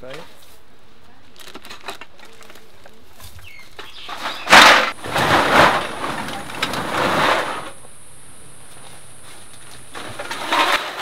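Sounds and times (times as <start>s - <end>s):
plastic recyclables crinkling: 1.3s - 11.0s.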